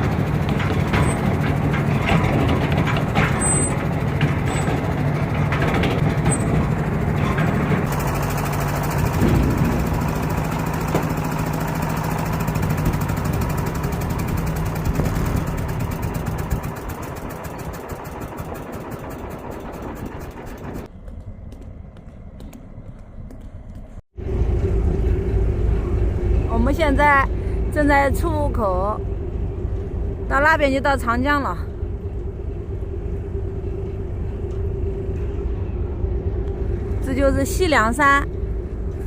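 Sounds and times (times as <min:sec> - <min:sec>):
boat diesel engine humming: 0:00.0 - 0:39.0.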